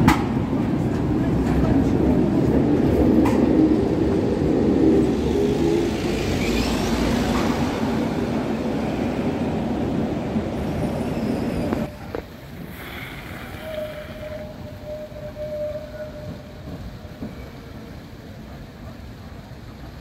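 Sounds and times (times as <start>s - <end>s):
outdoor background noise: 0.0s - 20.0s
tram rumbling on rails: 0.0s - 20.0s.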